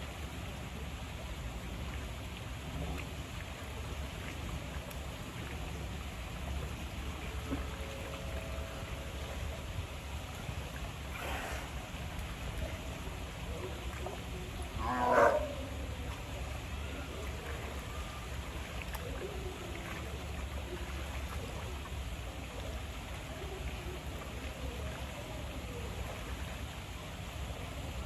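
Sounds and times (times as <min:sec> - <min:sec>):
constant low hum: 0:00.0 - 0:28.0
running water: 0:00.0 - 0:28.0.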